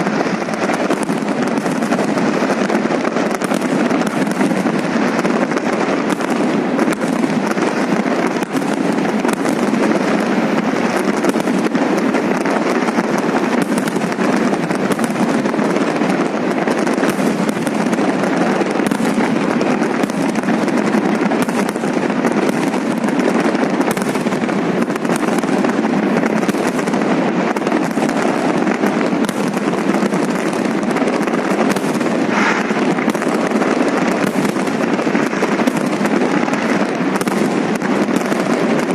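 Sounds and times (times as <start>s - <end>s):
fireworks crackling and popping: 0.0s - 38.9s.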